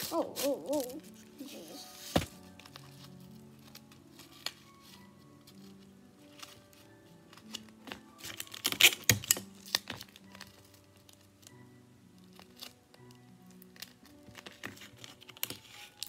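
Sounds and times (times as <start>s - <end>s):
paper and tape crinkling: 0.0s - 16.0s
soft background music: 0.0s - 16.0s.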